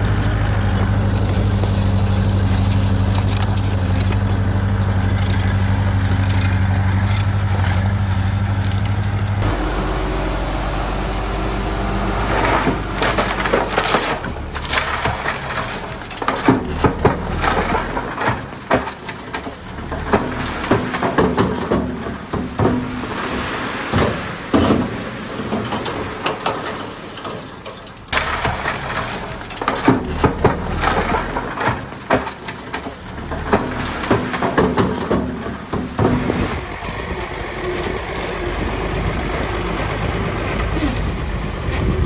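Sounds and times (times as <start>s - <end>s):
metal clanks and knocks: 0.0s - 9.8s, 12.2s - 36.6s
diesel engine of heavy machinery: 0.0s - 42.0s.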